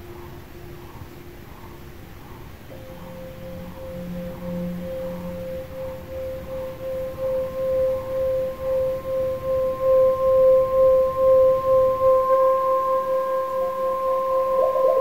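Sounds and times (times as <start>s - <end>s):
singing bowl ringing tone: 2.7s - 15.0s.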